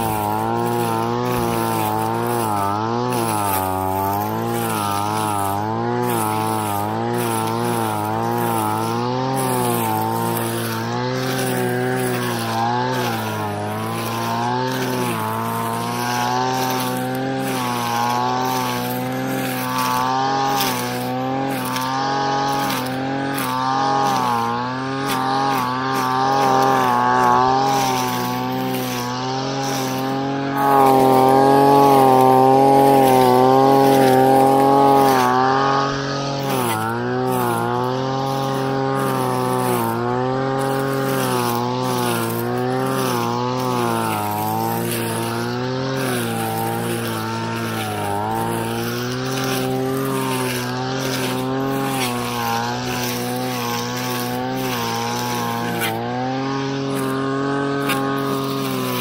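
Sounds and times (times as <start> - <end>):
brush cutter cutting weeds: 0.0 - 59.0.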